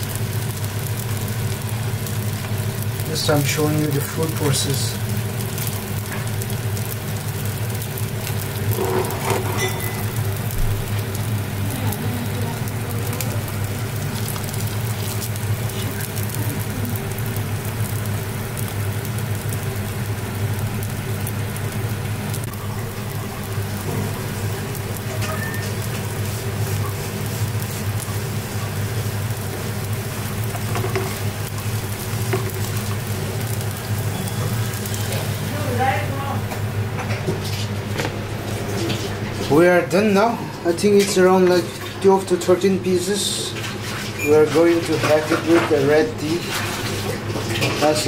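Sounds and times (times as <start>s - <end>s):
pancake sizzling in hot oil: 0.0s - 39.7s, 42.9s - 48.0s.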